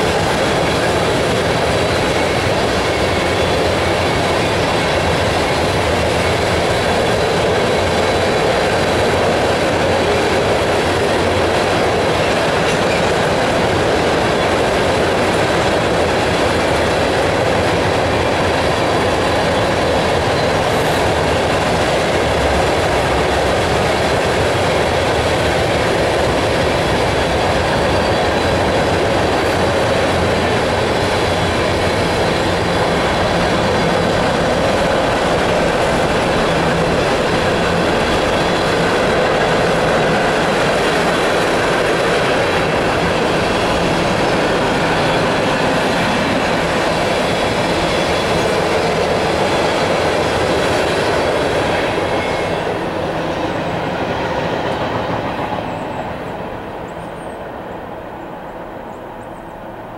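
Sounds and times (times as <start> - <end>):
freight train wheels clattering: 0.0 - 59.6.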